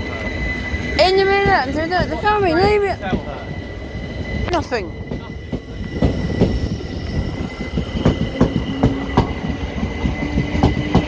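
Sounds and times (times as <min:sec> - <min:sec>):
train wheels clicking over rail joints: 0:01.0 - 0:04.0, 0:05.0 - 0:11.0.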